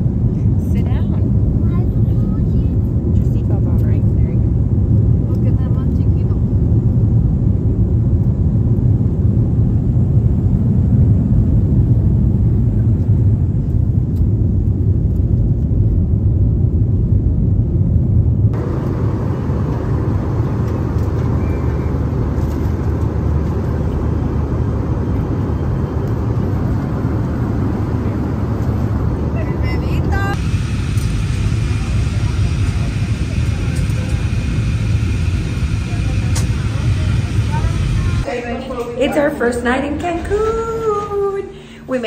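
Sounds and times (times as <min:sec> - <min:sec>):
jet engine and airflow roar: 0:00.0 - 0:42.0.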